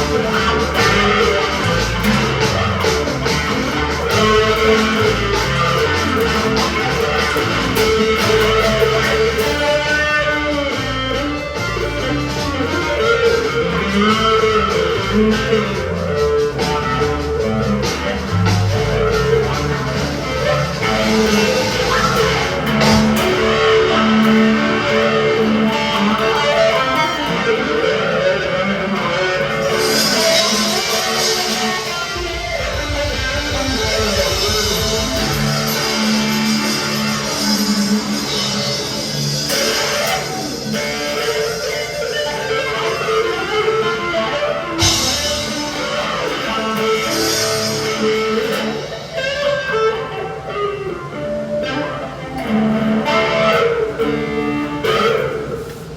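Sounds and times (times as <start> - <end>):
distorted electric guitar: 0.0 - 55.9.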